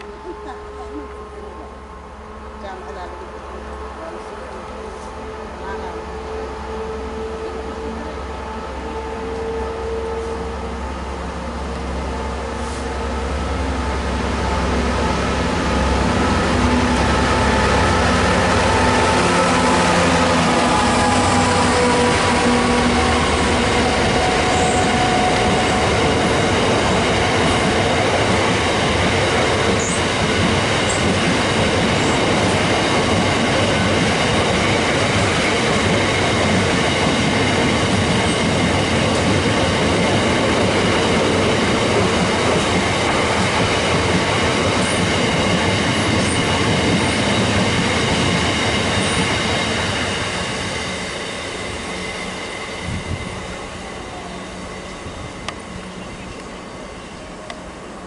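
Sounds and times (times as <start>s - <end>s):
diesel locomotive engine: 0.0s - 58.0s
freight wagons rumbling on rail: 0.0s - 58.0s.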